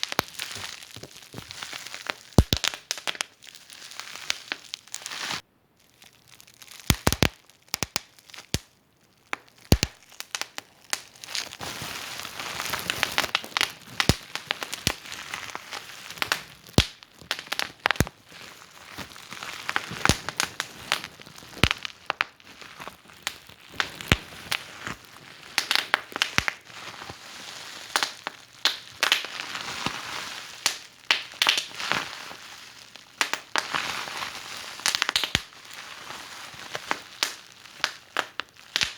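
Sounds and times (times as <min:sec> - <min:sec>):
wood fire crackling and popping: 0:00.0 - 0:05.4, 0:06.6 - 0:27.2, 0:27.8 - 0:35.8, 0:36.7 - 0:38.9.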